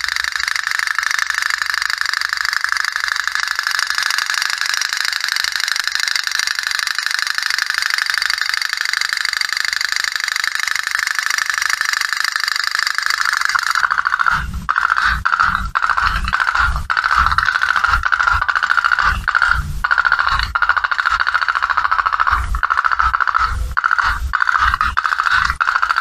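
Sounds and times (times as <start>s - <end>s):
toy steam boat popping: 0.0s - 26.0s.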